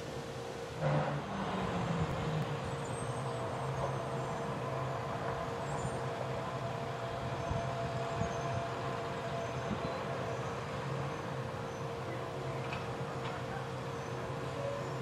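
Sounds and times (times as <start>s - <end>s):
diesel engine running: 0.0s - 15.0s
hydraulic whine: 0.0s - 15.0s.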